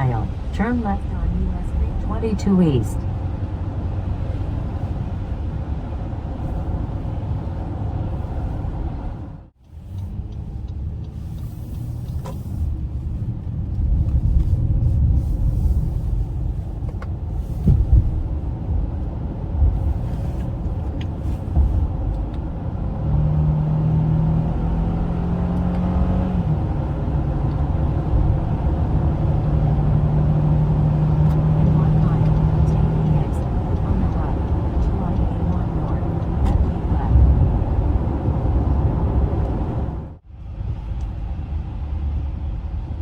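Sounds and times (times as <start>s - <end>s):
car engine drone: 0.0s - 43.0s
tyre and road noise: 0.0s - 43.0s.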